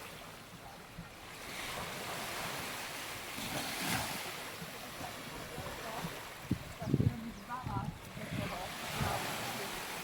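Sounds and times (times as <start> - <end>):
small waves washing onto beach: 0.0 - 10.0.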